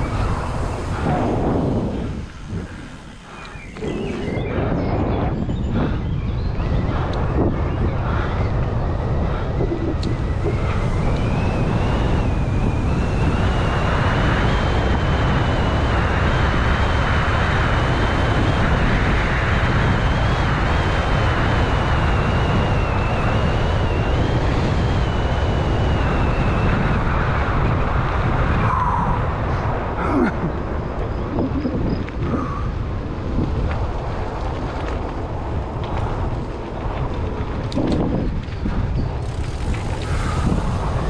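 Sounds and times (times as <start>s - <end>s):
high wavering whine: 0.0s - 41.0s
wind rumble on microphone: 0.0s - 41.0s.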